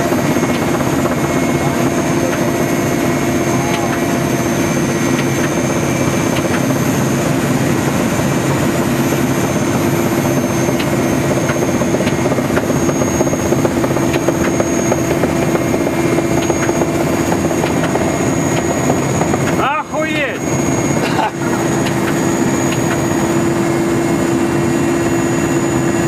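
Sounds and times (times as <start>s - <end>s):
loud machine drone: 0.0s - 26.0s.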